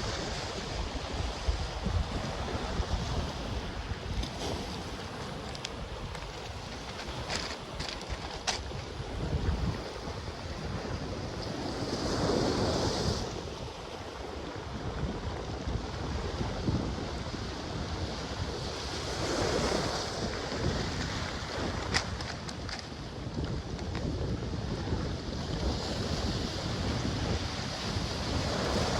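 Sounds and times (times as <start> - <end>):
waves washing onto beach: 0.0 - 28.9
wind buffeting microphone: 0.0 - 28.9.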